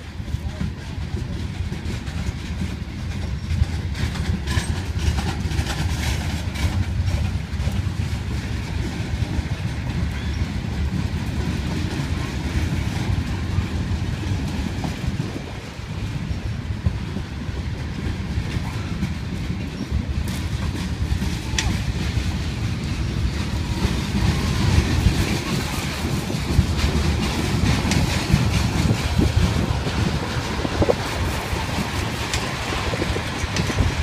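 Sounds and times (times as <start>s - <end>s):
freight train rumbling past: 0.0s - 34.0s
wheels clicking over rails: 0.0s - 34.0s.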